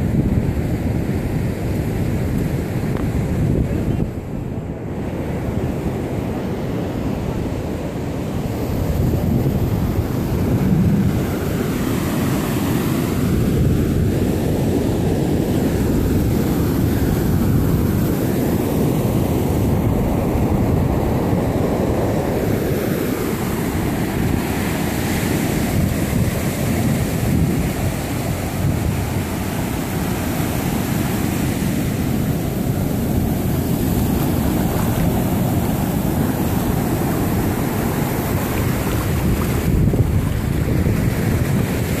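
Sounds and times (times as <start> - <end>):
ocean surf breaking: 0.0 - 42.0
wind rumble on microphone: 0.0 - 42.0.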